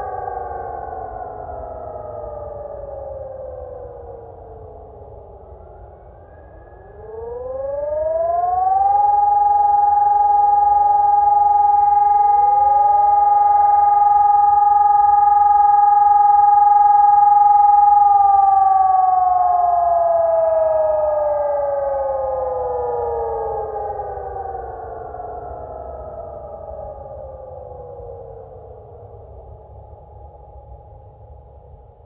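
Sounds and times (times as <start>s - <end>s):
siren rising and holding: 0.0s - 31.8s
fainter siren tones: 0.0s - 32.0s.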